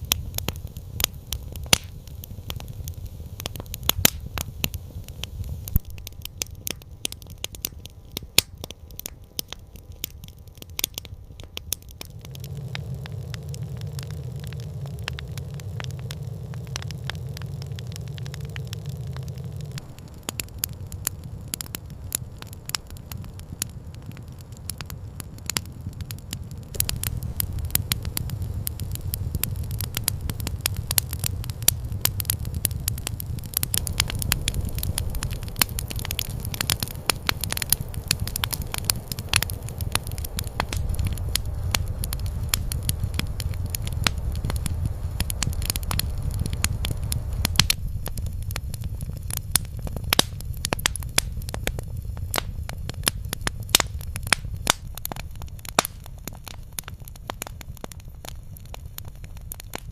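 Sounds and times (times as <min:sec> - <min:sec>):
campfire crackling and popping: 0:00.0 - 0:59.9
steady low rumble: 0:00.0 - 0:59.9.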